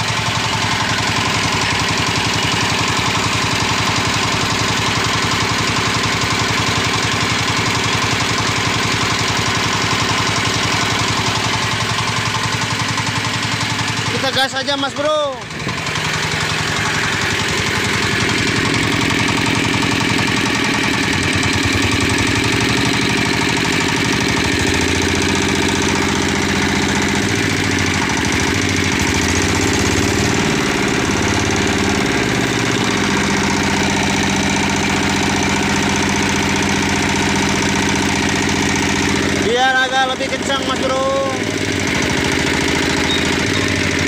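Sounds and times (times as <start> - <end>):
diesel engine knocking: 0.0 - 44.0.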